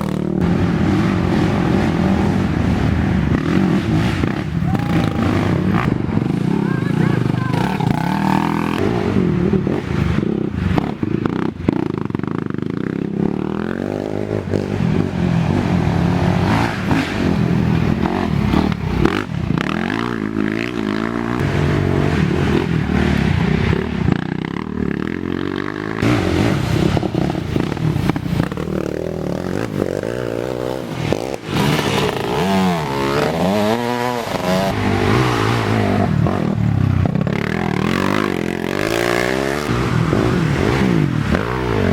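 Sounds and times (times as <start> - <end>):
atv engines revving: 0.0 - 41.9.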